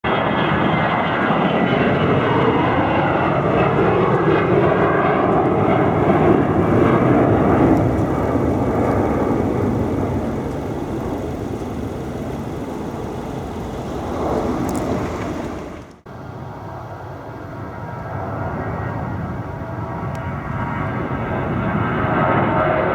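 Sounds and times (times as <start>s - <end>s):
jet airliner passing: 0.1s - 22.9s.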